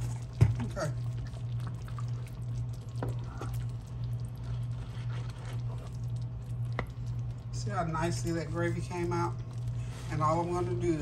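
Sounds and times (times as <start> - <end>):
spatula stirring thick gravy: 0.0 - 11.0
steady low hum: 0.0 - 11.0.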